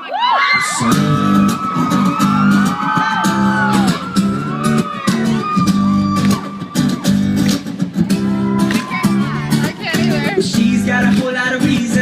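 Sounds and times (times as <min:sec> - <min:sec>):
live pop band music: 0:00.5 - 0:12.0
strummed guitar chords: 0:00.6 - 0:12.0.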